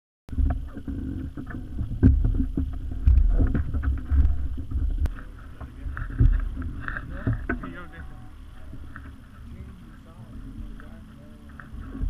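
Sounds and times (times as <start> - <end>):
wind rumbling on microphone: 0.3 - 12.0.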